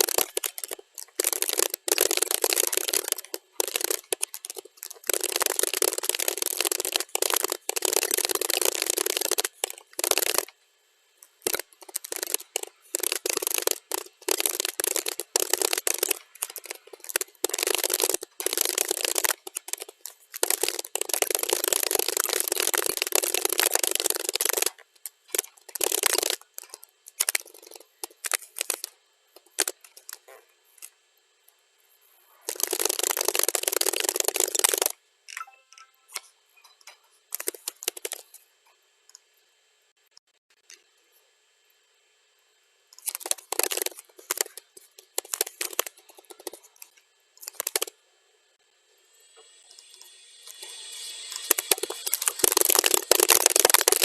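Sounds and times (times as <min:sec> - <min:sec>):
keyboard typing: 0:00.0 - 0:10.5, 0:11.2 - 0:30.4, 0:32.5 - 0:38.3, 0:43.0 - 0:47.9, 0:50.5 - 0:54.0.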